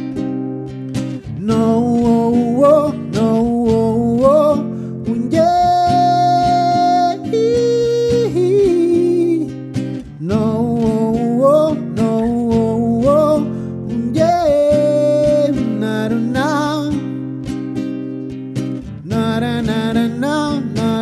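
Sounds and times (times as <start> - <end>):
strummed acoustic guitar: 0.0 - 21.0
man singing wordless notes: 1.4 - 9.5, 10.2 - 17.3, 19.0 - 21.0.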